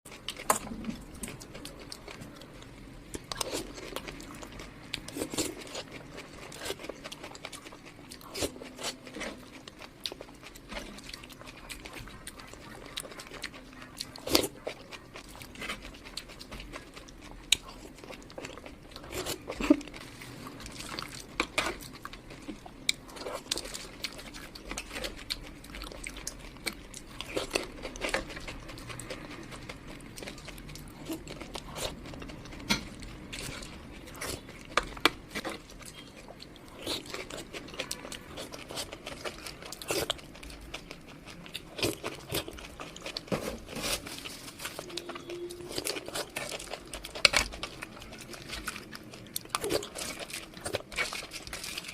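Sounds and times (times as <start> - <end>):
crunchy chewing: 0.1 - 51.9.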